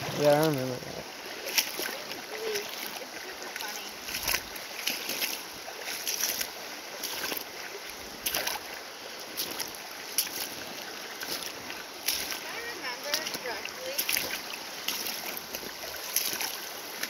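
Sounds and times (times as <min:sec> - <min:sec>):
footsteps splashing in river: 0:00.0 - 0:17.0
river water rushing: 0:00.0 - 0:17.0.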